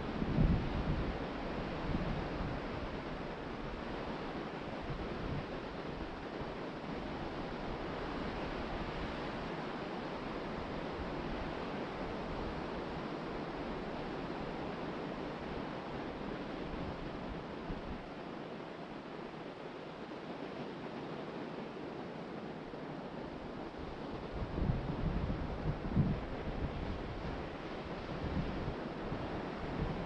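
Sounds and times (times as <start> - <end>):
wind rumbling on microphone: 0.0 - 18.2, 22.7 - 30.0
ocean surf breaking on beach: 0.0 - 30.0.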